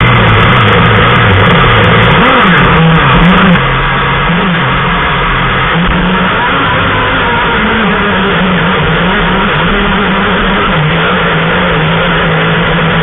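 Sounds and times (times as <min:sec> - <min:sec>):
model boat engine revving: 0:00.0 - 0:13.0.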